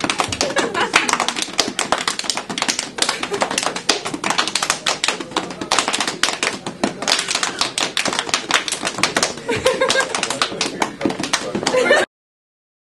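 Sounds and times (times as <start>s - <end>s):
people clapping: 0.0s - 12.1s.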